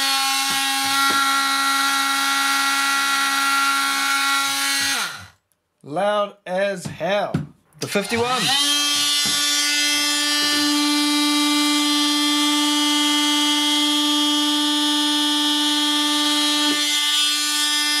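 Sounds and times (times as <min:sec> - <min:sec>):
oscillating multi-tool whining: 0:00.0 - 0:05.4, 0:08.0 - 0:18.0.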